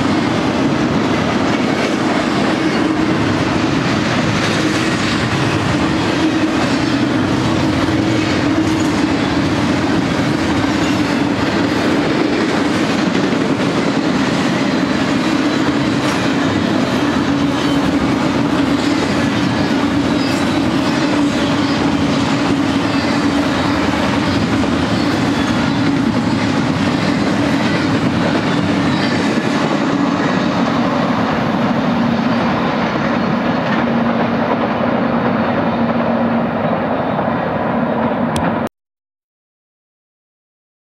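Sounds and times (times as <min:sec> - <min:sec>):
train wheels clicking over rail joints: 0:00.0 - 0:36.8
train rumble: 0:00.0 - 0:38.7.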